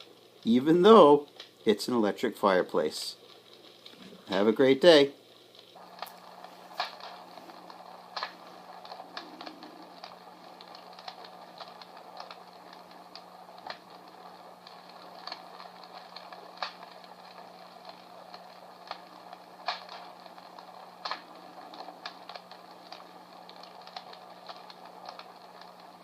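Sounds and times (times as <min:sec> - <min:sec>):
crackling fire sound effect: 0:00.0 - 0:26.0
soft hiss: 0:00.0 - 0:26.0
steady low hum: 0:00.0 - 0:26.0.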